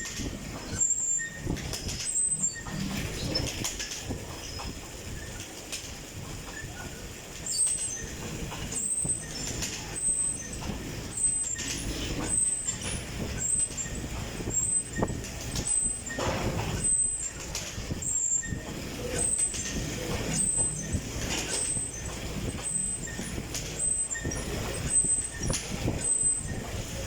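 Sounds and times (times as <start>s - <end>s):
exercise bike fan whooshing: 0.0s - 27.0s.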